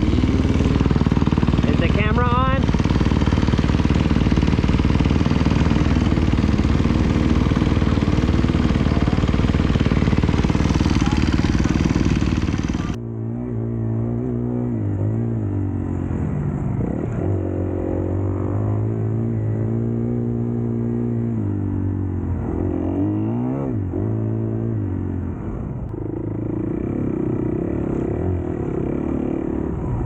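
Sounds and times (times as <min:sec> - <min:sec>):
dirt bike engine revving: 0:00.0 - 0:25.2.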